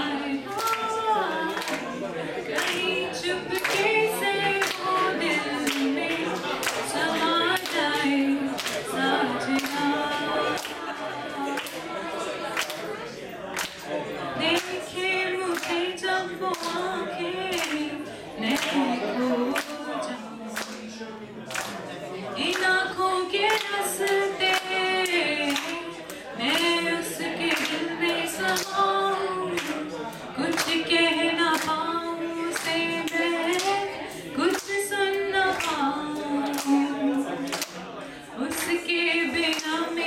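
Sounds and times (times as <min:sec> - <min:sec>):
woman singing slow melody: 0:00.0 - 0:02.0, 0:02.6 - 0:11.8, 0:14.4 - 0:21.0, 0:22.4 - 0:37.5
hands clapping steady beat: 0:00.0 - 0:40.0.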